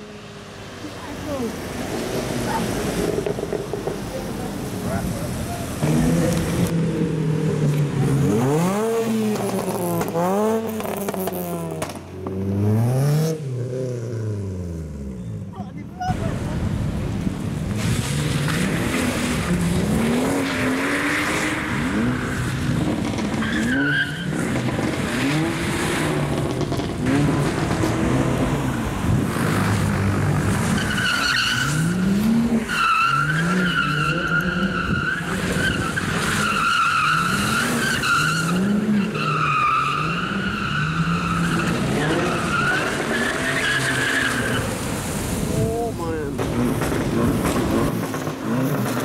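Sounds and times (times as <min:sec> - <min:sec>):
tyres skidding: 0:00.0 - 0:49.0
car engine revving: 0:00.8 - 0:15.1, 0:16.2 - 0:45.5.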